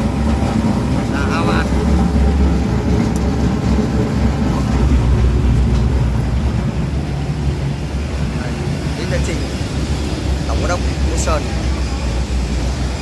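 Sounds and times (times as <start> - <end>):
industrial shredder rumbling: 0.0 - 13.0.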